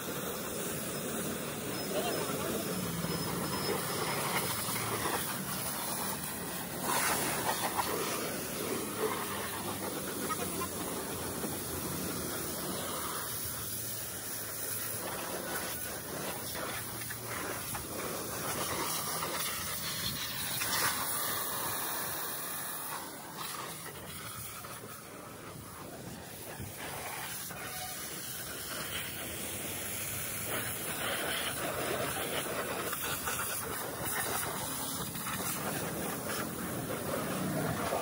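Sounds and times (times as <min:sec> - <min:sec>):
pressure washer jet spraying: 0:00.0 - 0:38.0.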